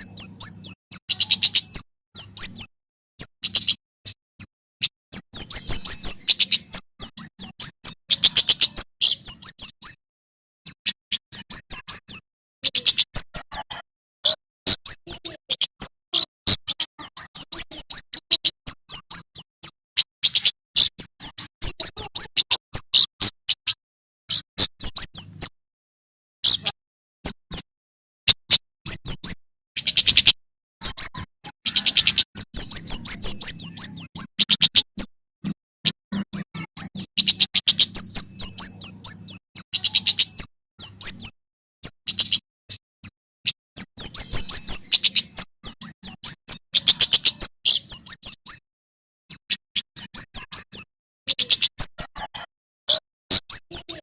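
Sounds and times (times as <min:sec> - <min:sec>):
bird sharp high chirps: 0:00.0 - 0:10.0, 0:10.6 - 0:25.6, 0:26.4 - 0:48.6, 0:49.3 - 0:54.0.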